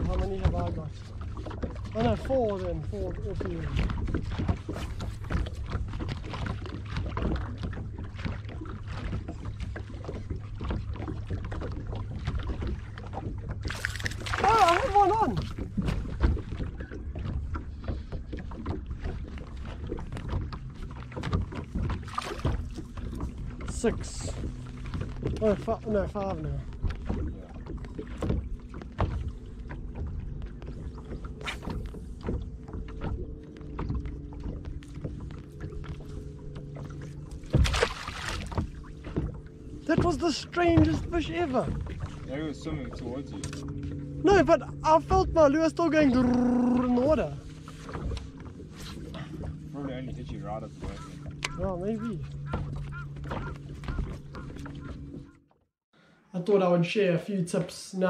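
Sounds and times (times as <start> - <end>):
waves lapping against boat hull: 0.0 - 56.1.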